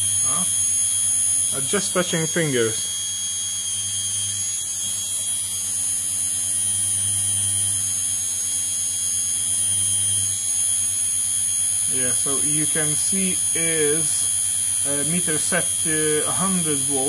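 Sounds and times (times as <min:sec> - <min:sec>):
electric motor hum and whine: 0:00.0 - 0:17.0.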